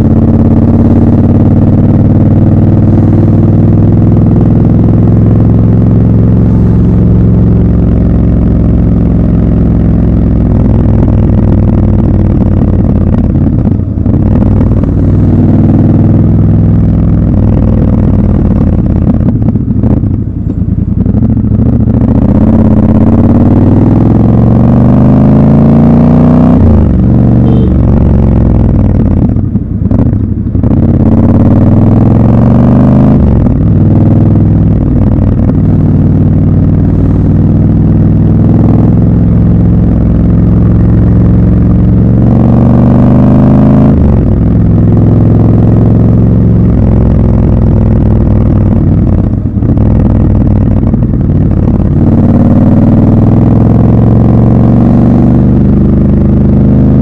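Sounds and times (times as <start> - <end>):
motorcycle engine and exhaust: 0.0 - 57.0.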